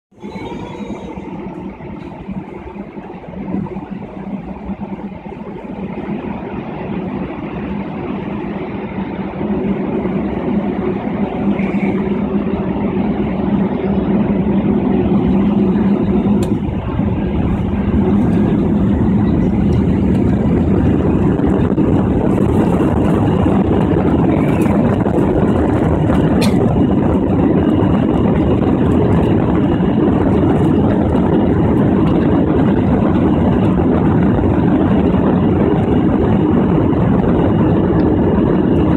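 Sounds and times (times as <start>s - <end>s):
jet engines rumbling in cabin: 0.1s - 38.9s.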